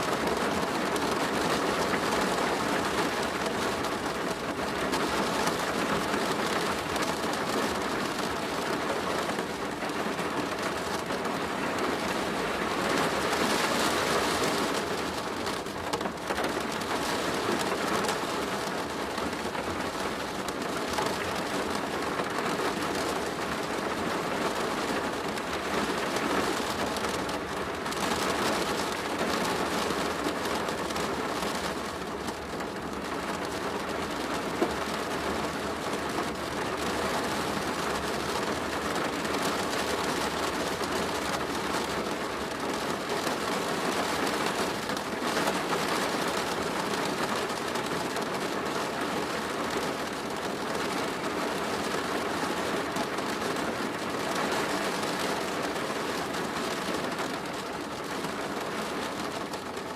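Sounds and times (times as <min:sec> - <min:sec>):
heavy rain on a plastic roof: 0:00.0 - 0:59.9.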